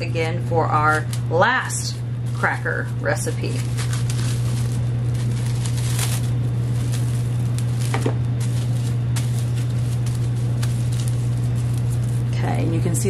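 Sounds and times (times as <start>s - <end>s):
steady low hum: 0.0s - 13.0s
cling film crinkling: 0.8s - 13.0s.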